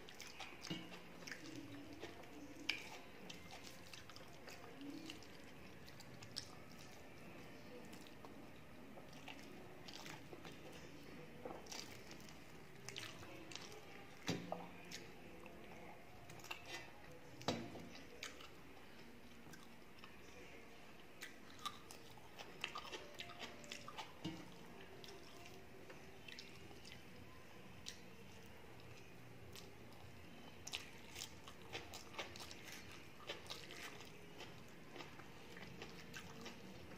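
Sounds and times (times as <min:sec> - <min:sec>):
quiet chewing: 0:00.0 - 0:36.9.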